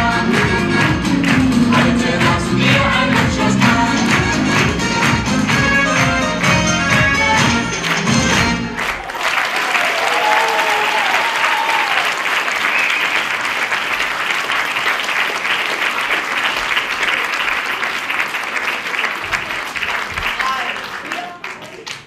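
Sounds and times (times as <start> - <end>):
large crowd applauding: 0.3 - 22.0.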